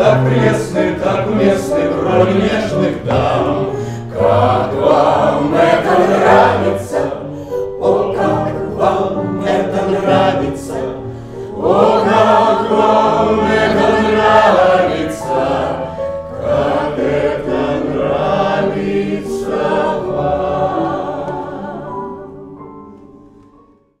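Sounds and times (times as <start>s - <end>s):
chorus singing: 0.0s - 23.4s.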